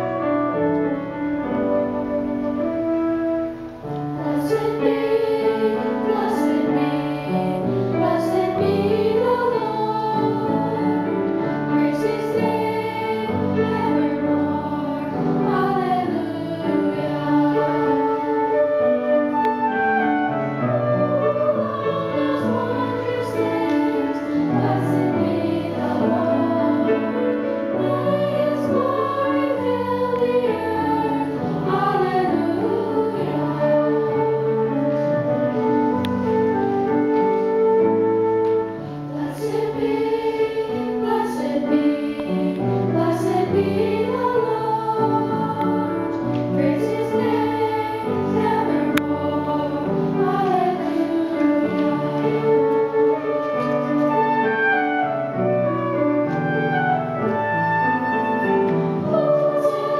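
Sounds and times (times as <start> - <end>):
piano accompaniment: 0.0 - 59.9
youth choir singing: 3.9 - 35.1, 39.0 - 55.1, 57.2 - 59.9.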